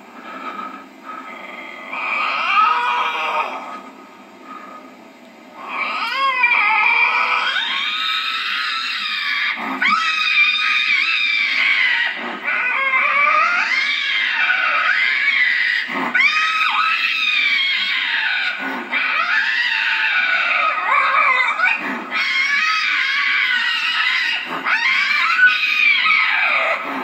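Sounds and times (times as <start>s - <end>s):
lynx yowling: 1.7s - 3.8s, 5.6s - 27.0s.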